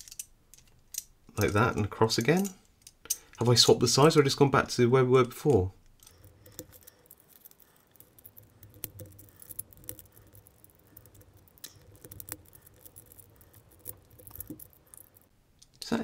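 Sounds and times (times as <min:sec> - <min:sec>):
metal puzzle pieces clicking: 0:00.0 - 0:03.6, 0:05.2 - 0:15.3.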